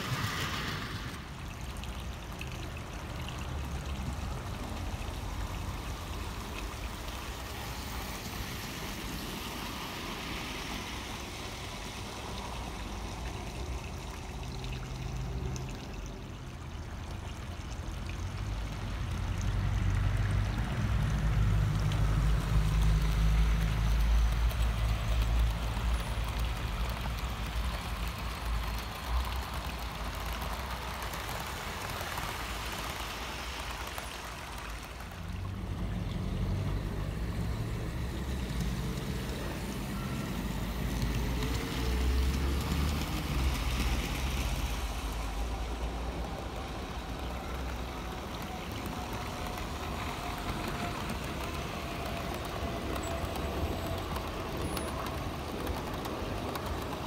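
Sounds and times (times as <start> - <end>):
steady hiss: 0.0 - 16.2, 19.5 - 57.0
model train rumbling on track: 0.0 - 57.0.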